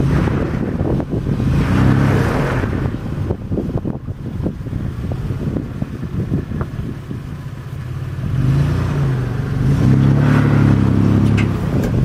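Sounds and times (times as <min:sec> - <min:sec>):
engine pulling under load: 0:00.0 - 0:12.0
wind buffeting microphone: 0:00.0 - 0:12.0.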